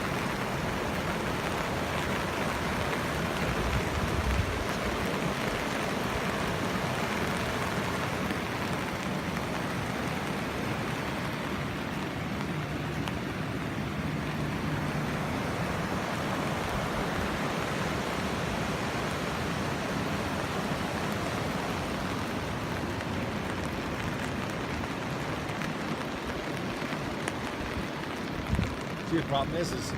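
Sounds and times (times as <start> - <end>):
rushing water from heavy rain: 0.0 - 29.9.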